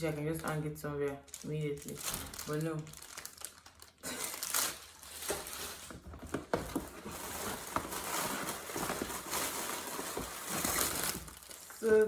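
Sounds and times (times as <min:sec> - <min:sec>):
packaging rustling: 0:01.3 - 0:12.0.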